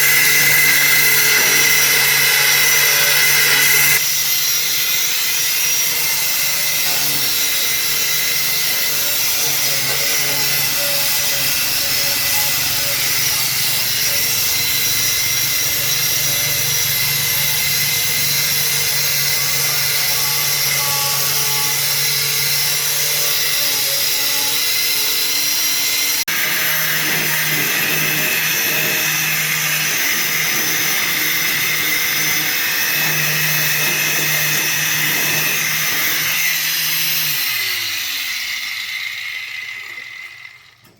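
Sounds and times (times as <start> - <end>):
power tool whining: 0.0 - 40.9.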